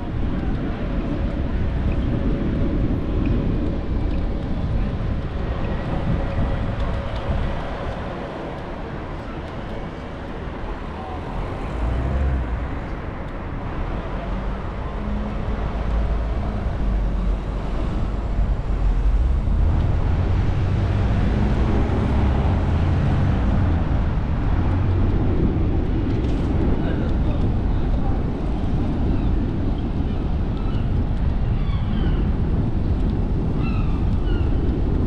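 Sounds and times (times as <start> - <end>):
road traffic rumble: 0.0 - 35.0
wind on microphone: 0.0 - 35.0.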